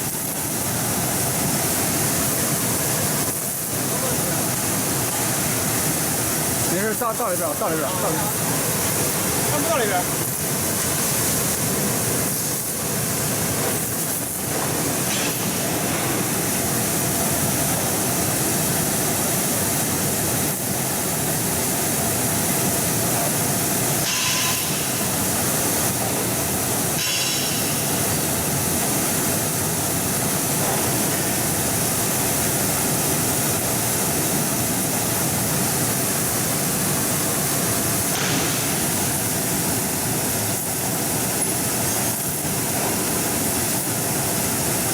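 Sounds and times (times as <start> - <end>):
washing machine churning water: 0.0 - 44.9.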